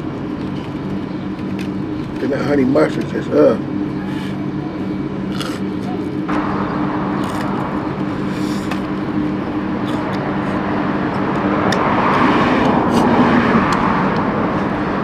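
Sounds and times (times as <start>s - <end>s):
car engine humming: 0.0s - 15.0s
road or ventilation noise: 0.0s - 15.0s.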